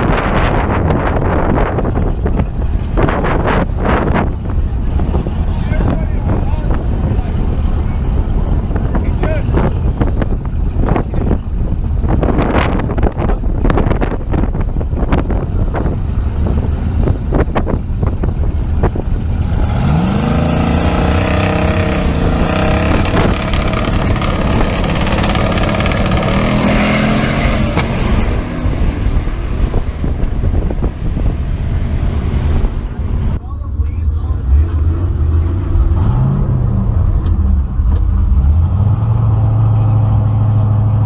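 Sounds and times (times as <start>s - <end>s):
drag car engine revving: 0.0s - 41.0s
wind buffeting microphone: 0.0s - 41.0s.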